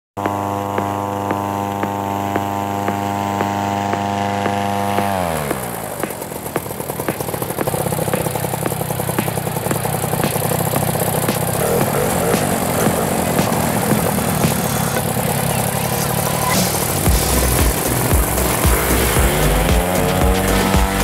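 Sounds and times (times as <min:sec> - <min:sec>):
engine hum with regular tick: 0:00.2 - 0:21.0
paramotor engine running rough: 0:00.2 - 0:21.0.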